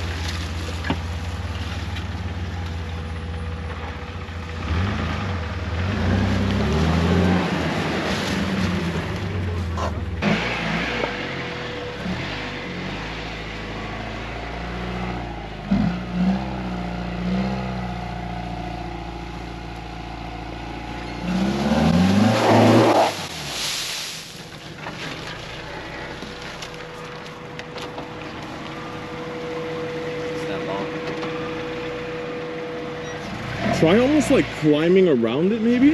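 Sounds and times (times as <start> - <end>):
vehicle engine running and revving: 0.0 - 23.3, 25.1 - 35.9.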